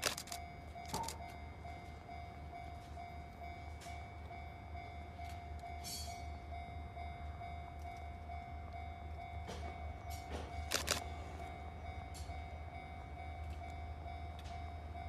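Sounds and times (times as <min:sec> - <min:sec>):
diesel train approaching: 0:00.0 - 0:15.0
level crossing warning bell: 0:00.0 - 0:15.0.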